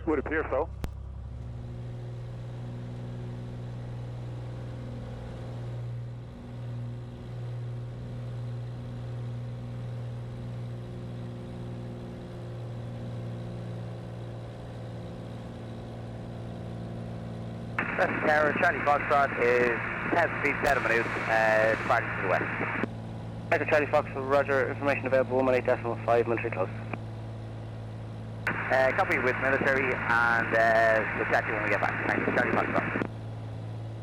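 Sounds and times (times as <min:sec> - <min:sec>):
aircraft engine and propeller droning: 0:00.0 - 0:34.0.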